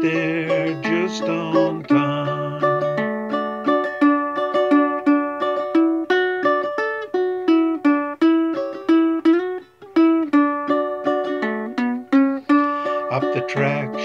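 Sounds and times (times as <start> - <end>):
ukulele playing plucked notes: 0.0 - 14.0.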